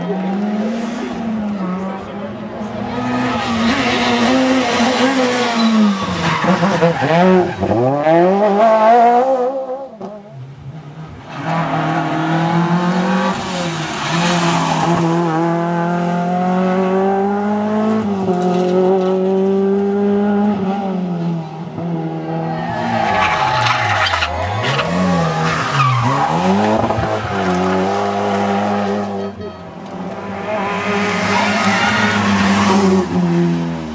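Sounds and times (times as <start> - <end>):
rally car engines high revving: 0.0 - 33.9.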